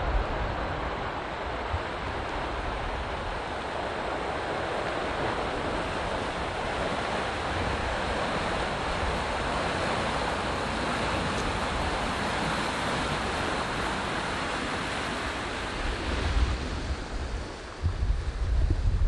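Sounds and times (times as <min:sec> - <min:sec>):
water rushing and churning: 0:00.0 - 0:19.0
wind gusts on microphone: 0:00.0 - 0:19.0.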